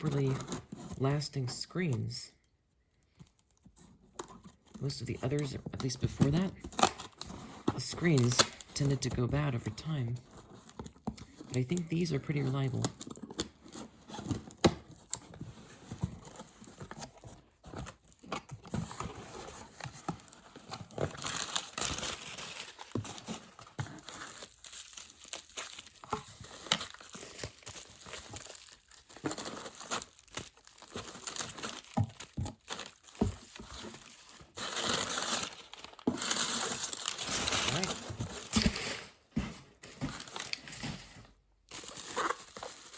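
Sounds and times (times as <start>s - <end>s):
packaging crinkling: 4.2s - 39.0s, 41.7s - 42.9s.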